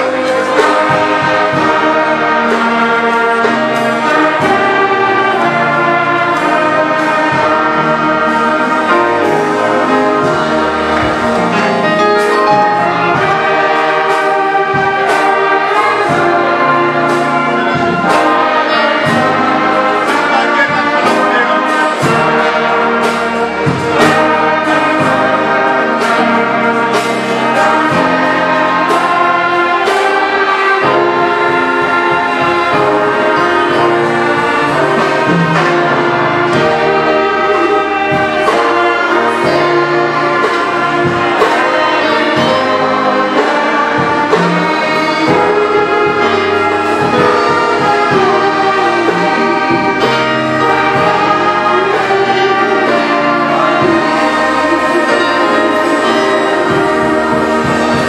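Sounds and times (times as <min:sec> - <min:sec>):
choir singing: 0:00.0 - 0:58.0
orchestra playing a hymn: 0:00.0 - 0:58.0.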